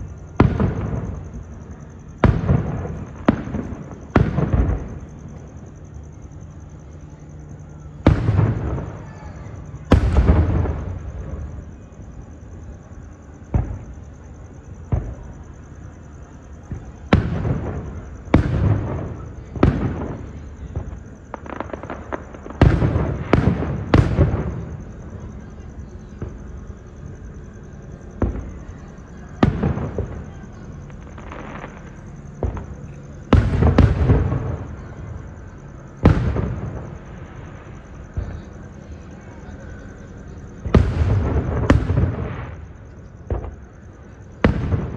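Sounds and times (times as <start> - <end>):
fireworks booming: 0.0 - 7.1, 7.8 - 44.9.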